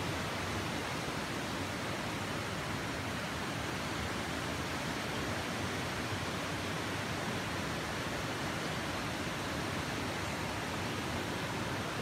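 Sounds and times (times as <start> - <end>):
waterfall and creek rushing: 0.0 - 12.0.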